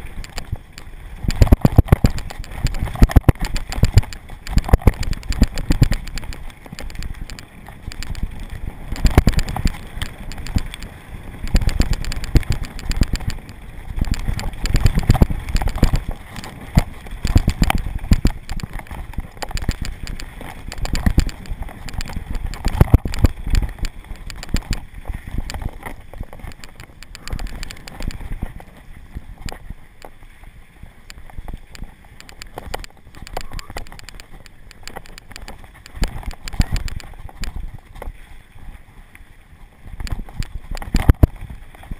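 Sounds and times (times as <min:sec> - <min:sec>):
bike rattling over bumps: 0:00.0 - 0:38.8, 0:39.5 - 0:41.9
bike tyres on dirt: 0:00.0 - 0:41.9
wind rumbling on microphone: 0:00.0 - 0:41.9.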